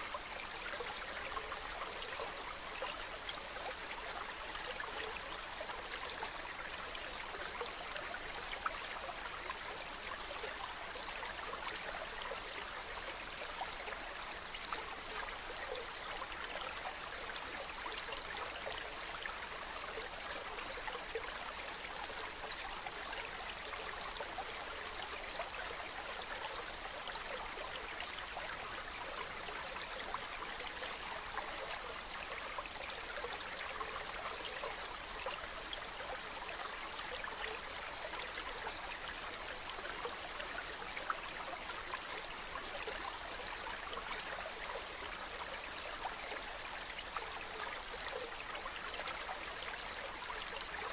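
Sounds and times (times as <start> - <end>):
stream running over rocks: 0.0 - 50.9.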